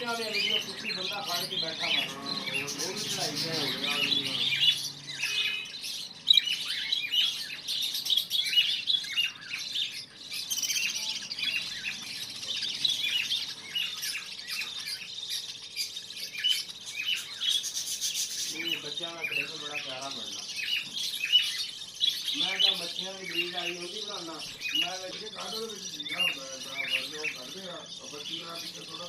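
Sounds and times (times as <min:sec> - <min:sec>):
budgerigars chattering: 0:00.0 - 0:29.0.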